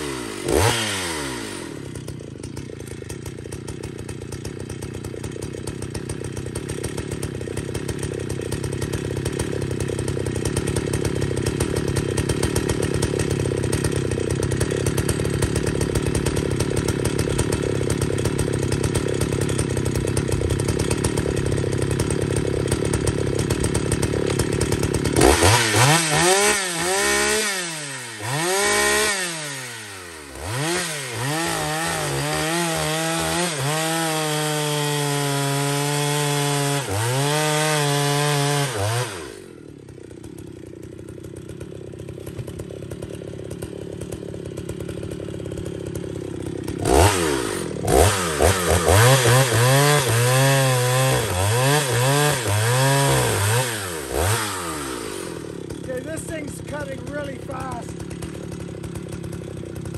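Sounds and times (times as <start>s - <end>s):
chainsaw cutting and revving: 0.0s - 59.9s.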